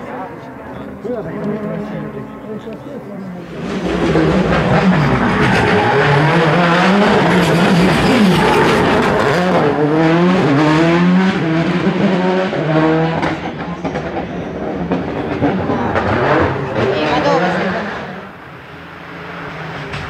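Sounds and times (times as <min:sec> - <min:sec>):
rally car engine passing: 0:00.0 - 0:20.0.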